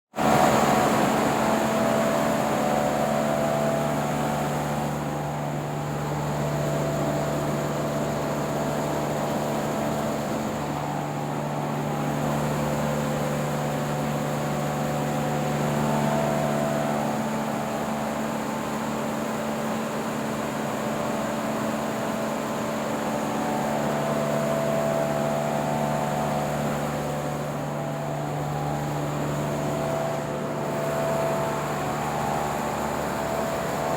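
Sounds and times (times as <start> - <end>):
fan running: 0.1 - 33.9.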